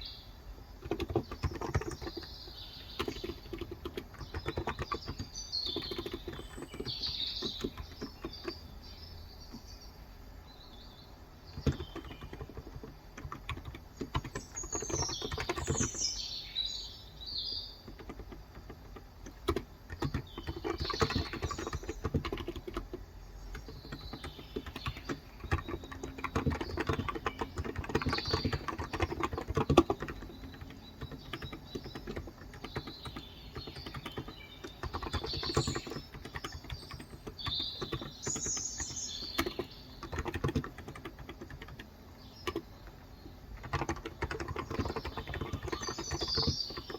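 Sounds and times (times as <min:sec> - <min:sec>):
birds chirping: 0:00.0 - 0:46.9
keyboard typing: 0:00.8 - 0:08.8, 0:11.5 - 0:16.2, 0:17.7 - 0:46.9.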